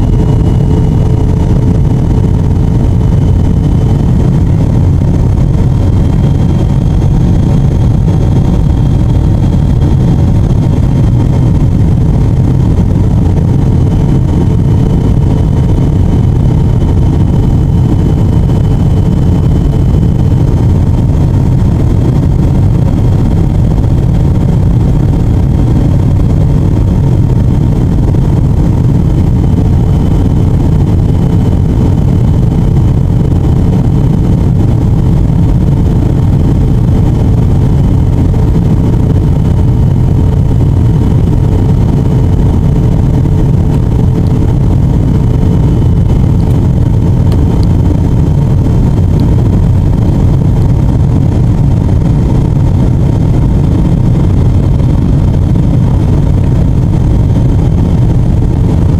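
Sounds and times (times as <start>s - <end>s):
airplane cabin rumble: 0.0s - 58.9s.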